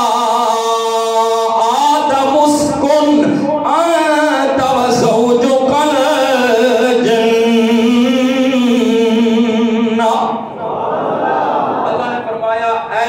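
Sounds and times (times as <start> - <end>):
man chanting a melodic phrase: 0.0 - 10.5.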